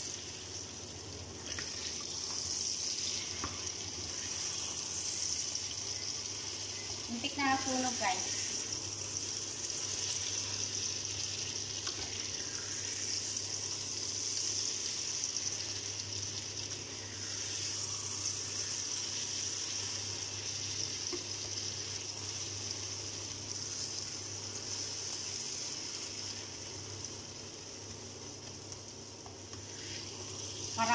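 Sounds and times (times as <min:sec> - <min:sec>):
food sizzling in oil: 0:00.0 - 0:30.9.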